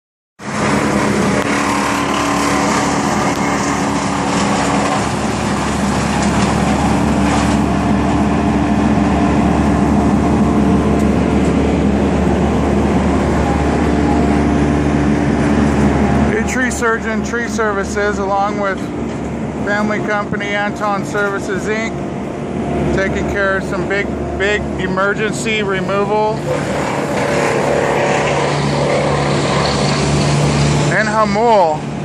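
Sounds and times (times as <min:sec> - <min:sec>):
heavy machinery engine running: 0:00.4 - 0:32.0.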